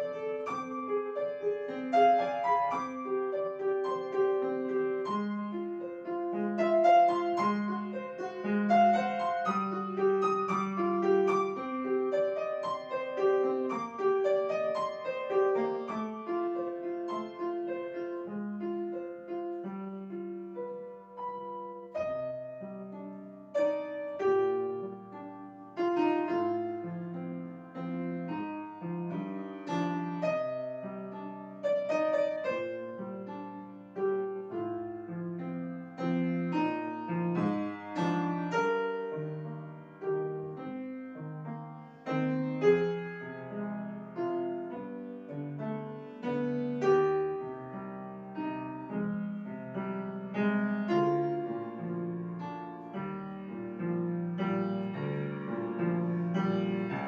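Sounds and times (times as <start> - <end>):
solo grand piano piece: 0.0 - 57.0.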